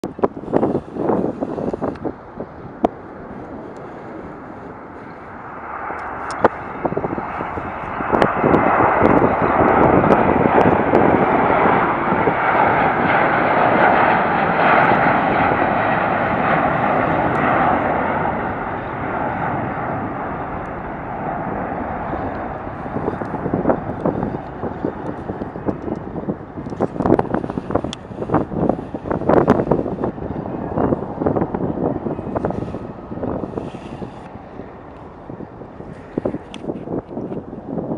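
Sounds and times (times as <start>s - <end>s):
jet engines at takeoff: 0.0s - 37.9s.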